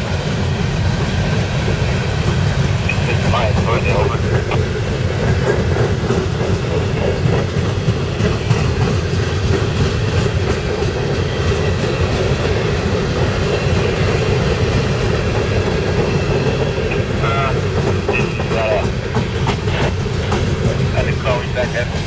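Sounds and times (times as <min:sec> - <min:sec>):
steel wheels rumbling on rail: 0:00.0 - 0:22.0
wheels clicking over rail joints: 0:04.2 - 0:22.0.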